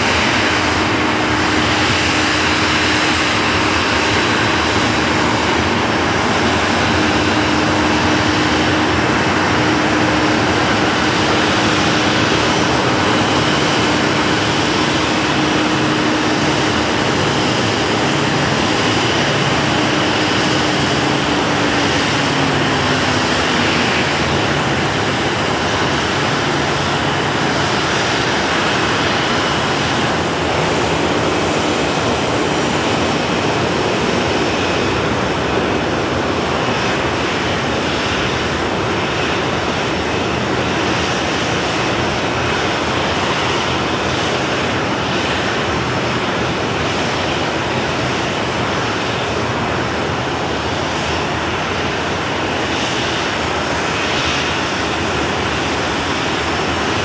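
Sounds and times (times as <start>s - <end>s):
faint high engine whine: 0.0s - 57.0s
jet engines roaring at idle: 0.0s - 57.0s.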